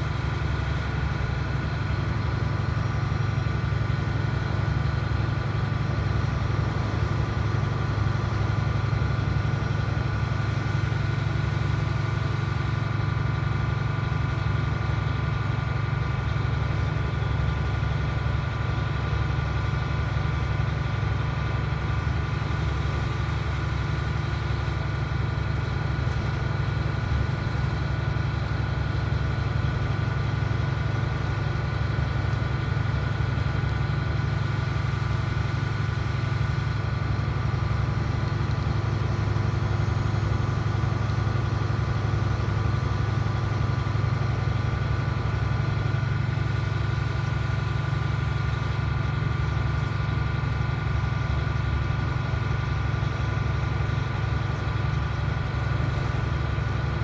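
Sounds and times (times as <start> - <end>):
bus diesel engine rumbling: 0.0 - 57.0
road noise: 0.0 - 57.0.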